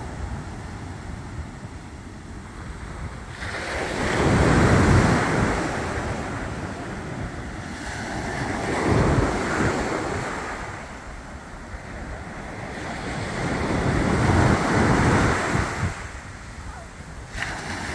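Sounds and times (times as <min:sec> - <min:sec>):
ocean surf breaking: 0:00.0 - 0:17.9
wind rumbling on microphone: 0:00.0 - 0:17.9.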